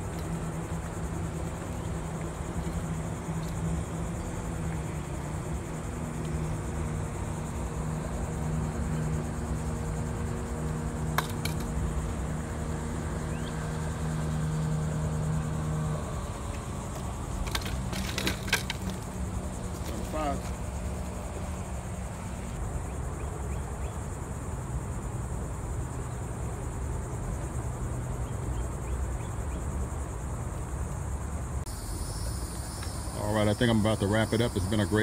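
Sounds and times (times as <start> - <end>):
boat motor humming: 0.0 - 31.3
insects buzzing: 0.0 - 35.0.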